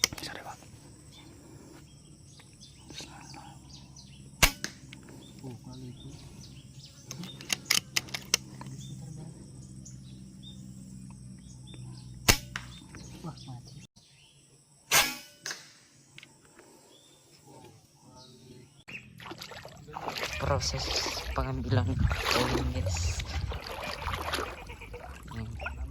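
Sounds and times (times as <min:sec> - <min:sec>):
faint bird chirps: 0:00.0 - 0:14.6, 0:15.9 - 0:25.9.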